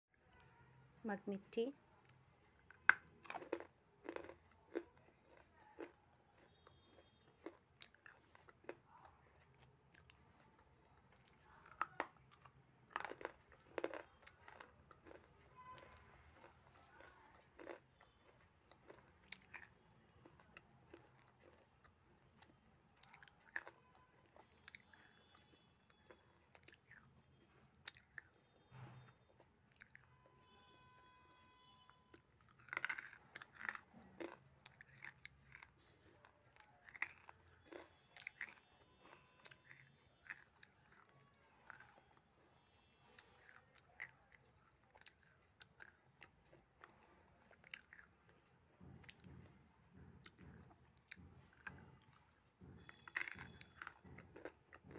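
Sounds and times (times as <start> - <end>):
person chewing crunchy clay: 2.0 - 54.9.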